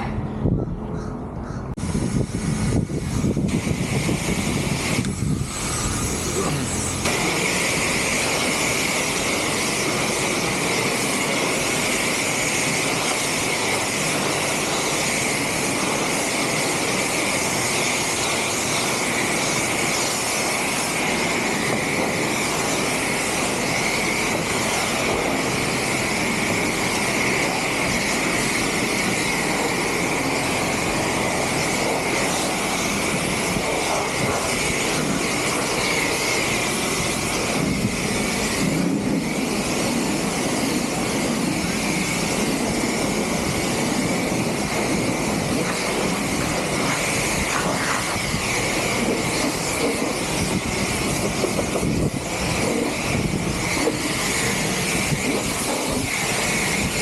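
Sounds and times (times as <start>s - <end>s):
machine noise with high whine: 0.0s - 57.0s.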